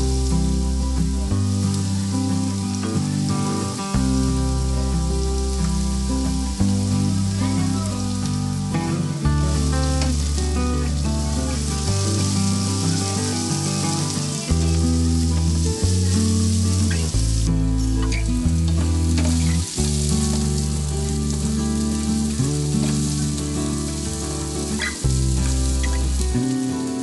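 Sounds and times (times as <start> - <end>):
carrots sizzling in oil: 0.0 - 27.0
music with deep bass: 0.0 - 27.0.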